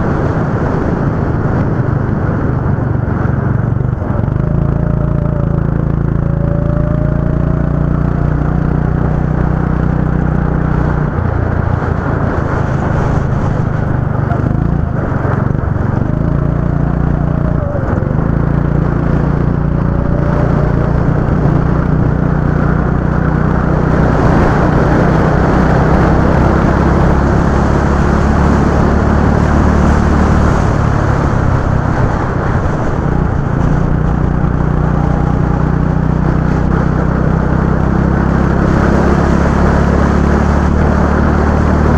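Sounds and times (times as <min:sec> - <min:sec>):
go-kart engine running: 0:00.0 - 0:41.9.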